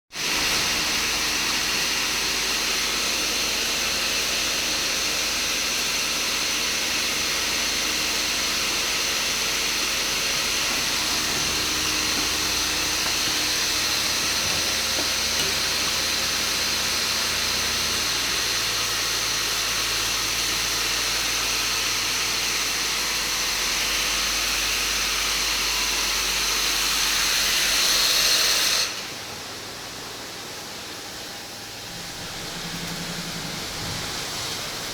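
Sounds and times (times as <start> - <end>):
machine loud steady hiss: 0.2 - 34.9.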